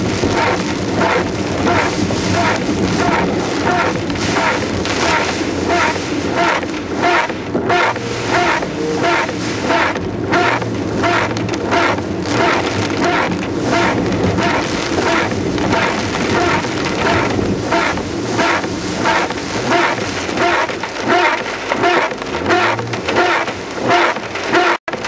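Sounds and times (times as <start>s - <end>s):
car engine hum: 0.0s - 24.6s
rhythmic pulses: 0.0s - 24.8s
rain on a car: 0.0s - 25.0s.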